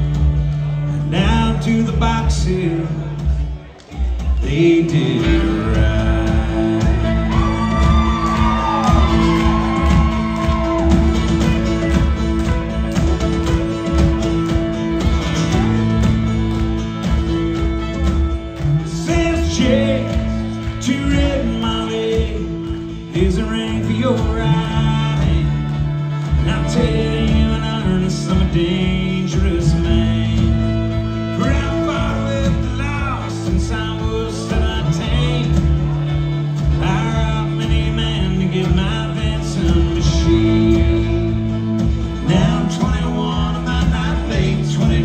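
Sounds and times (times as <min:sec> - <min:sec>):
country band playing: 0:00.0 - 0:45.0
plucked guitar: 0:00.0 - 0:45.0.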